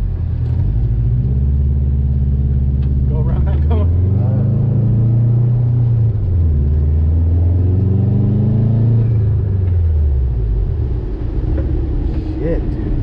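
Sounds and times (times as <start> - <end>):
car engine revving under load: 0.0 - 13.0.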